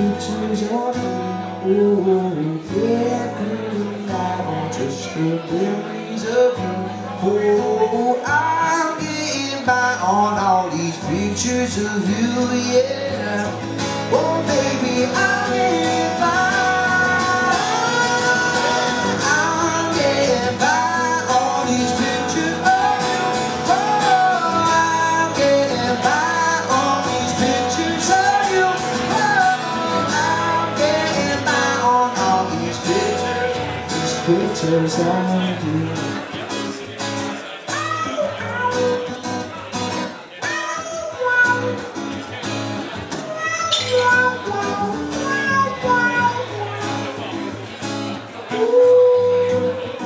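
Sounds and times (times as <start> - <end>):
man singing: 0.0 - 50.0
strummed acoustic guitar: 0.0 - 50.0.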